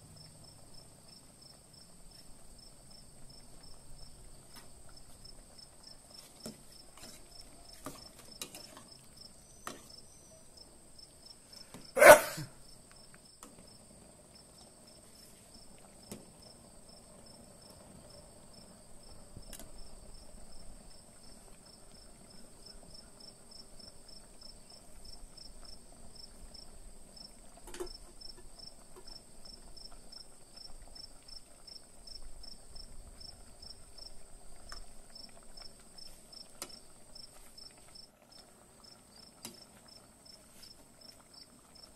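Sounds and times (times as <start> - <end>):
curry bubbling: 0.0 - 11.9, 12.5 - 41.9
crickets chirping: 0.1 - 41.9.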